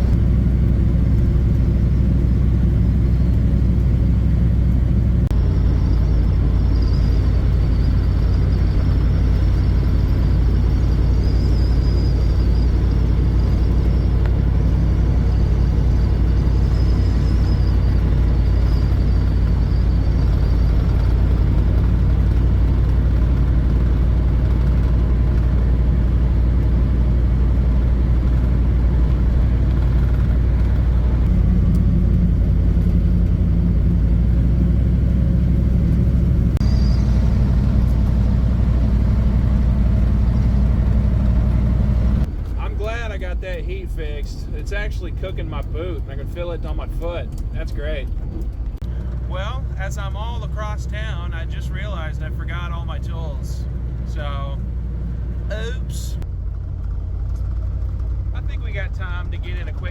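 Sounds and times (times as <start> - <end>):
diesel engine driving: 0.0 - 59.9.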